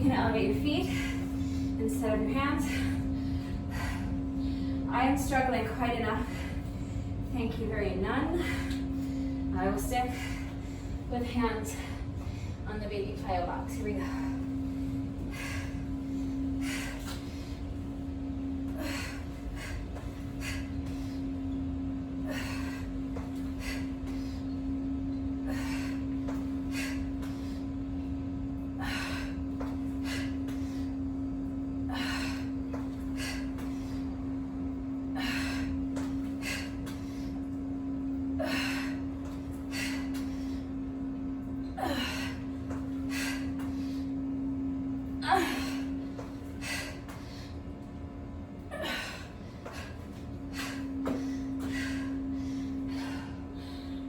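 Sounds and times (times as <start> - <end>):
steady low hum: 0.0 - 54.0
woman breathing hard: 0.8 - 4.9, 6.1 - 7.3, 8.2 - 12.7, 14.0 - 41.0, 41.6 - 54.0.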